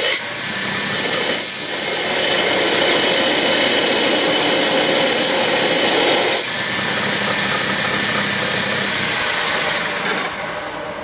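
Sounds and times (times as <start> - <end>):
blade grinding on abrasive belt: 0.0 - 10.7
belt grinder running: 0.0 - 10.8.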